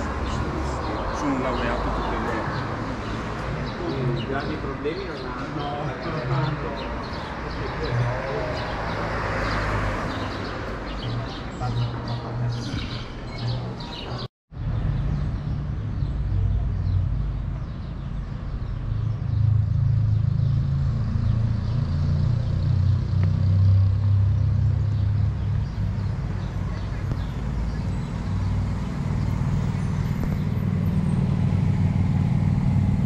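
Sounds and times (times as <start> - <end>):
vehicle rumble: 0.0 - 33.0.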